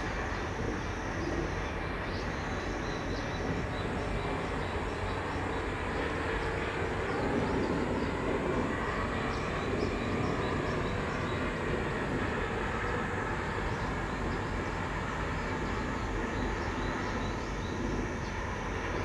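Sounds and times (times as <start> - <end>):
distant traffic: 0.0 - 19.0.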